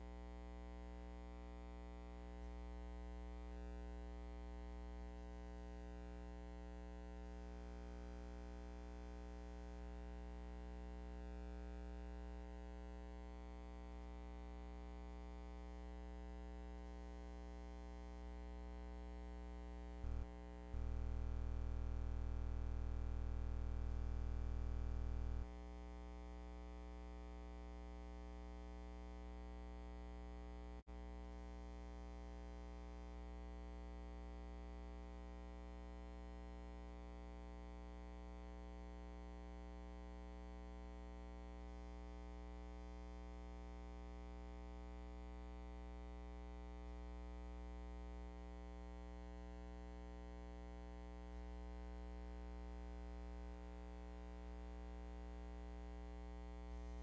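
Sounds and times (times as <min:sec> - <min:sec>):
electrical hum with buzz: 0:00.0 - 0:57.0.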